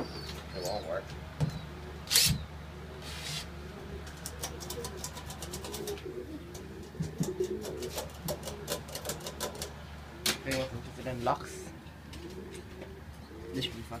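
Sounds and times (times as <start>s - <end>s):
pigeons cooing: 0.0s - 14.0s
steady low hum: 0.0s - 14.0s.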